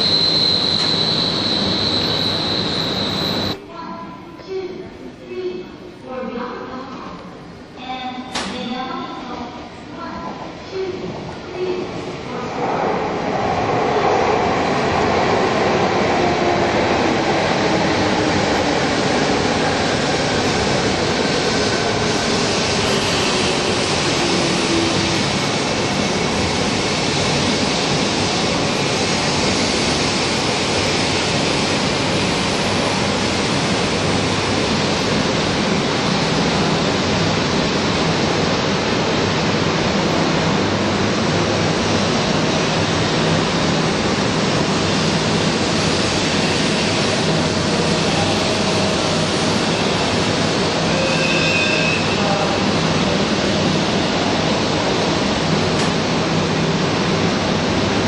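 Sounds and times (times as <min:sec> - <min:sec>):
train rushing past: 0:00.0 - 0:03.6, 0:09.7 - 0:58.0.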